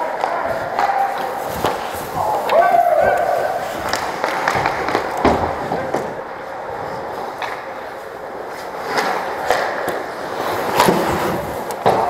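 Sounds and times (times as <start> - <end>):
hockey sticks and puck clicking: 0.0 - 12.0
skates scraping on ice: 0.0 - 12.0.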